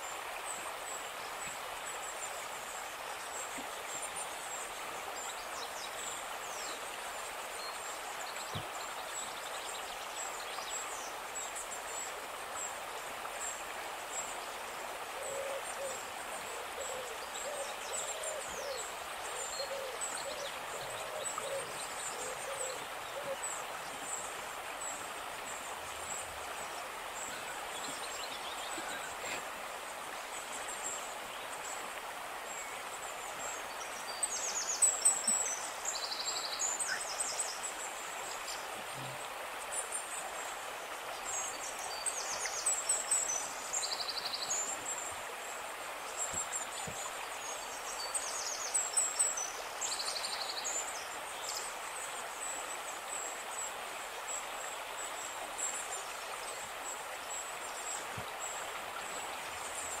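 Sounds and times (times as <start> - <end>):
steady hiss: 0.0 - 60.0.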